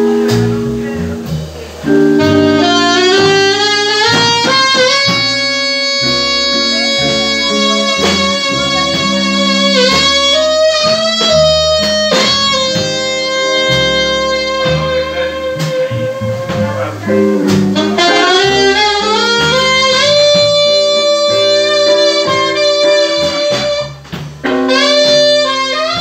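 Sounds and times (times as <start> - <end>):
drums: 0.0 - 26.0
electric guitar: 0.0 - 26.0
saxophone: 0.0 - 26.0.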